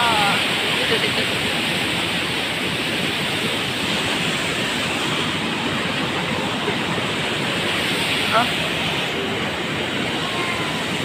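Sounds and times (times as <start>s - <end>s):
floodwater rushing over spillway: 0.0s - 11.0s.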